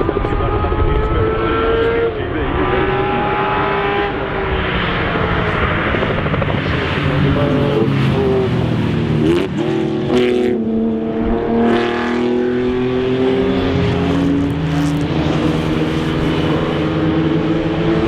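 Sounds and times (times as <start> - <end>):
racing car engine accelerating: 0.0 - 18.0.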